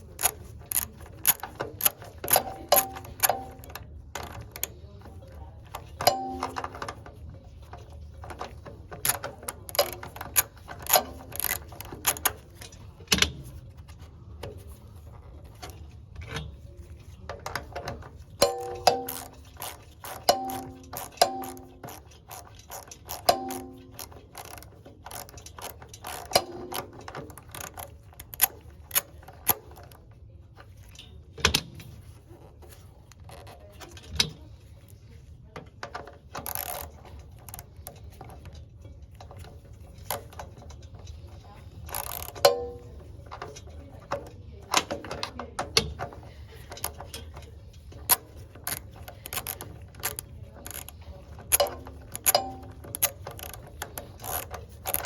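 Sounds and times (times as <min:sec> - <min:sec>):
tools and metal parts clinking: 0:00.0 - 0:55.0.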